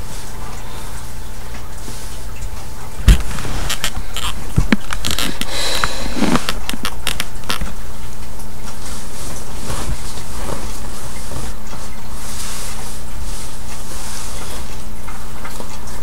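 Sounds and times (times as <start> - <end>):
clothes rustling and clicks: 0.0 - 16.0
steady hum and hiss: 0.0 - 16.0.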